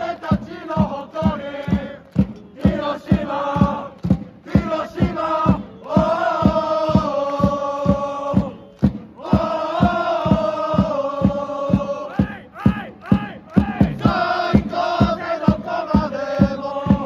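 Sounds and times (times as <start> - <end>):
football supporters chanting: 0.0 - 17.0
steady drum beat: 0.0 - 17.0.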